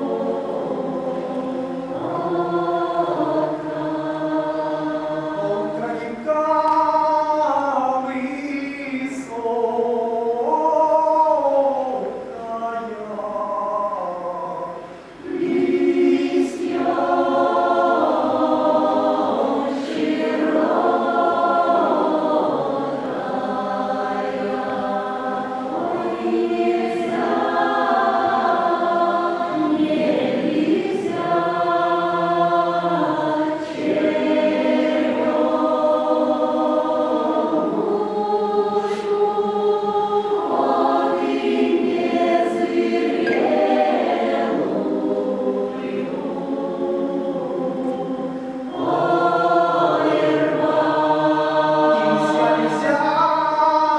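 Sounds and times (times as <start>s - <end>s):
mixed choir singing a cappella: 0.0s - 53.9s.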